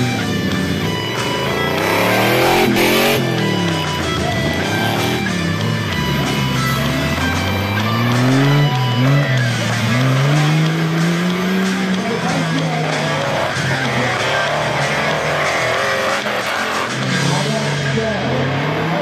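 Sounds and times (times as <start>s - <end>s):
buggy engine revving: 0.0s - 19.0s
rock music: 0.0s - 19.0s.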